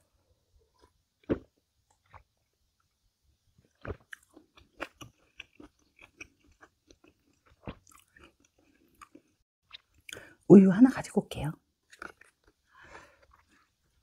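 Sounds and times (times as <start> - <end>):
person chewing food: 0.7 - 10.4, 11.8 - 14.0.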